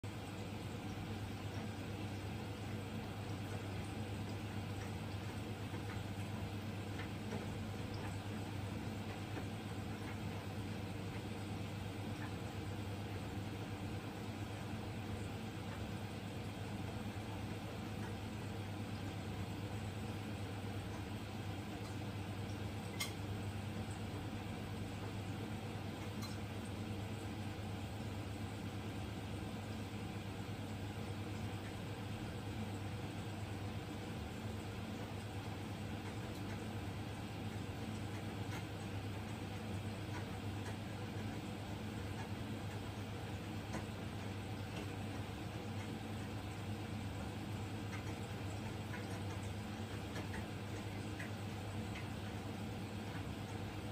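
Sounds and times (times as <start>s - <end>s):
aquarium pumps humming: 0.0s - 53.9s.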